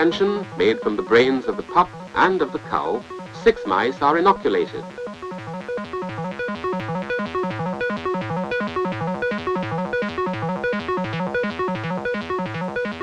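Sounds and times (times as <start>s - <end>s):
fast music with bouncing bass: 0.0s - 13.0s.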